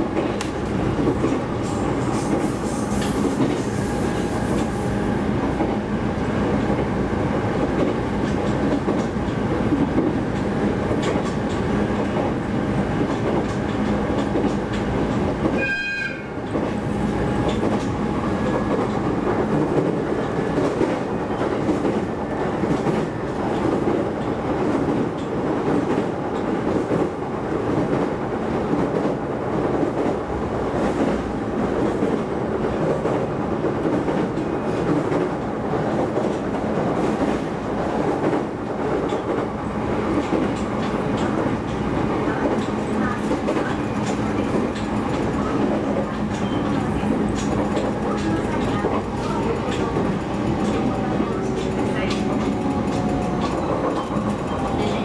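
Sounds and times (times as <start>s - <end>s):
train wheels rumbling on rail: 0.0s - 55.0s
clacks over rail joints: 7.6s - 12.4s, 13.0s - 15.6s, 17.4s - 55.0s.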